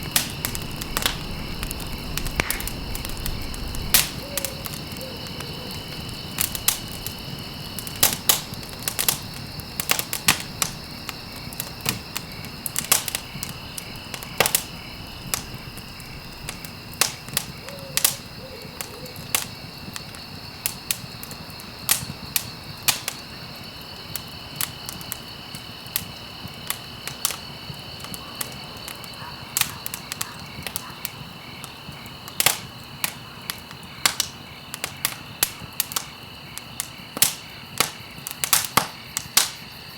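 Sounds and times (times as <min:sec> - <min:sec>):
campfire pops and snaps: 0:00.0 - 0:39.8
low hiss of burning: 0:00.0 - 0:39.9.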